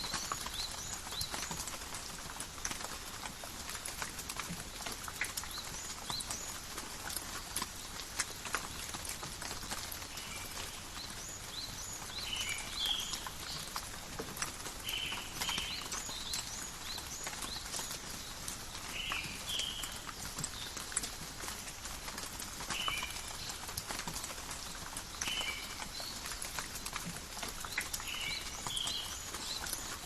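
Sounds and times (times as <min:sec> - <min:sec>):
rain patter: 0:00.0 - 0:30.0
drops dripping and tapping: 0:00.1 - 0:30.0.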